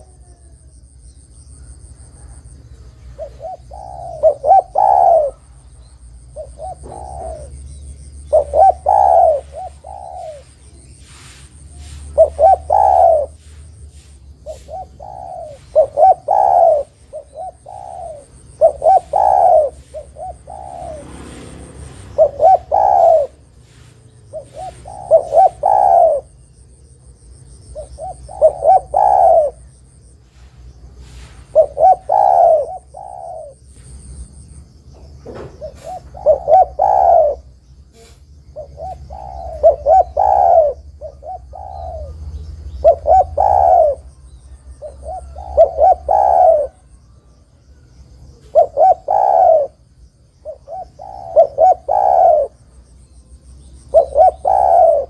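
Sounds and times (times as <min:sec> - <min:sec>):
dove cooing: 0:00.0 - 0:26.7, 0:27.4 - 0:34.2, 0:35.0 - 0:55.0.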